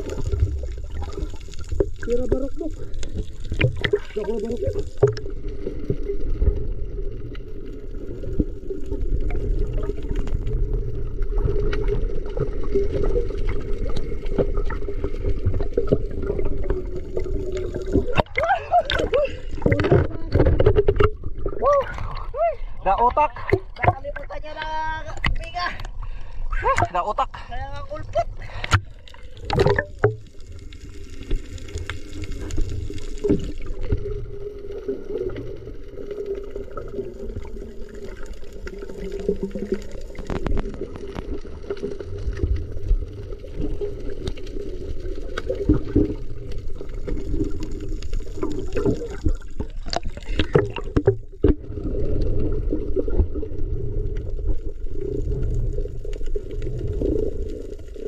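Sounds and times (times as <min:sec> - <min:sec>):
clicks and crackles: 0:00.0 - 0:22.3, 0:23.0 - 0:26.0, 0:28.4 - 0:52.5
muffled underwater rumble: 0:00.0 - 0:58.0.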